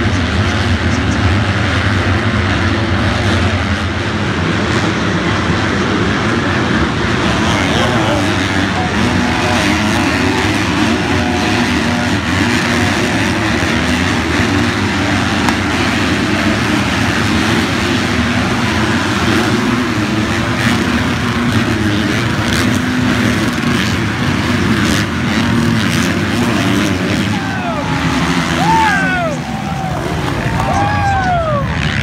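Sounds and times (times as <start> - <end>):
motocross bikes racing by: 0.0 - 32.0.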